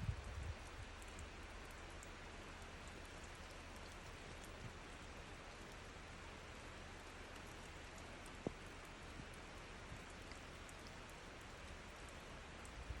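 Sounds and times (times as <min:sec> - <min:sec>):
drip ticks: 0:00.0 - 0:13.0.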